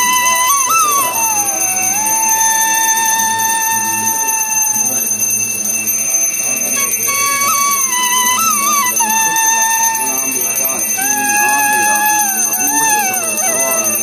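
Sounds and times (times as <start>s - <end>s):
reed wind instrument melody: 0.0s - 5.2s, 6.6s - 14.0s
steady drone: 0.0s - 14.0s.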